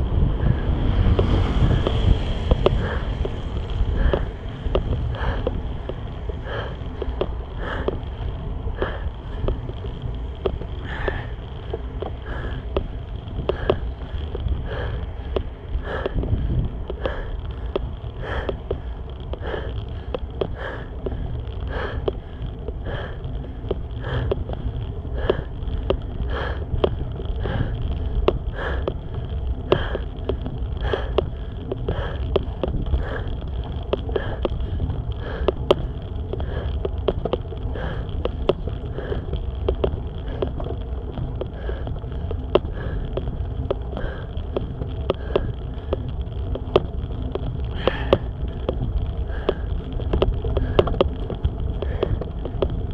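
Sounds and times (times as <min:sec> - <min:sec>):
heavy rhythmic breathing: 0:00.0 - 0:52.9
steady low rumble: 0:00.0 - 0:52.9.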